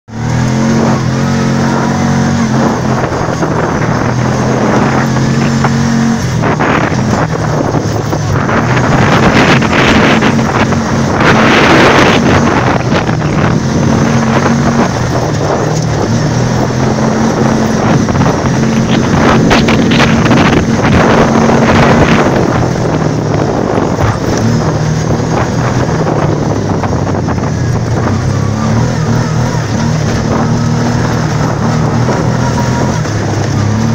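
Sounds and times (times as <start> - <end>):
atv engine running: 0.1 - 33.9
wind rush on microphone: 0.1 - 33.9.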